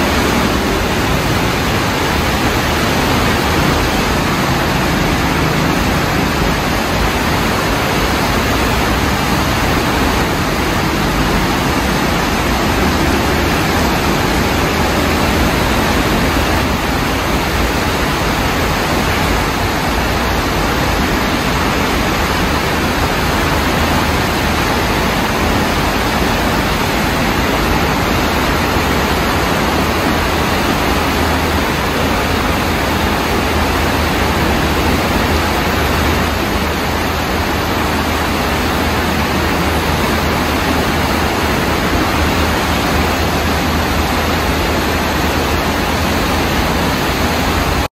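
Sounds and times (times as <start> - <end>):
floodwater rushing: 0.0 - 47.9.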